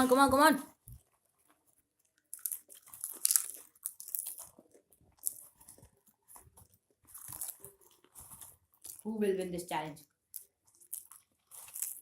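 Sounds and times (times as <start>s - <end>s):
popcorn being chewed: 0.0s - 9.1s, 10.0s - 12.0s.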